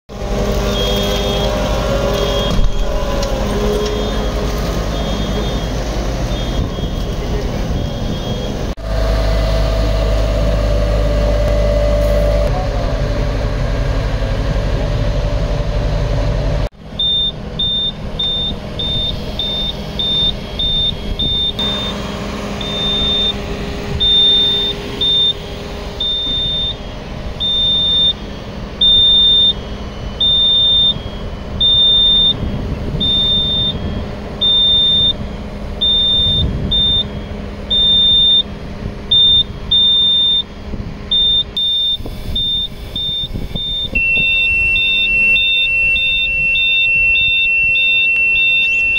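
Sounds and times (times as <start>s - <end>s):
fire engine drone: 0.1s - 48.9s
high repeated warning beeps: 0.7s - 3.2s, 3.8s - 8.8s, 16.9s - 48.9s.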